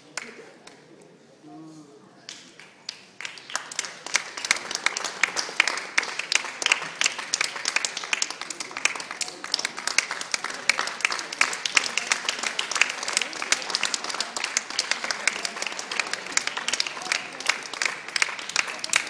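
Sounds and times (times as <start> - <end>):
crowd applauding: 2.6 - 19.0.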